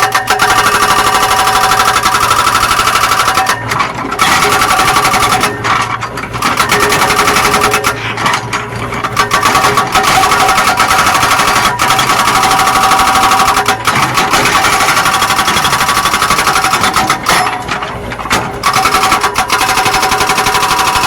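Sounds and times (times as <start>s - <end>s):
excavator diesel engine rattling: 0.0s - 21.0s.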